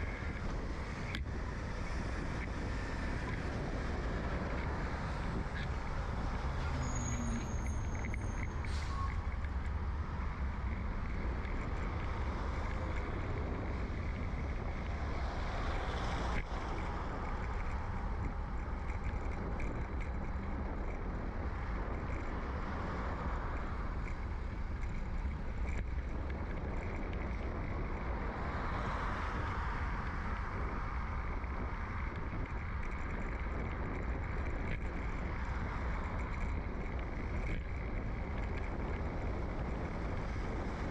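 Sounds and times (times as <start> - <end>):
bicycle road rumble: 0.0 - 40.9
passing motor traffic: 0.0 - 40.9
wind on microphone: 0.0 - 40.9.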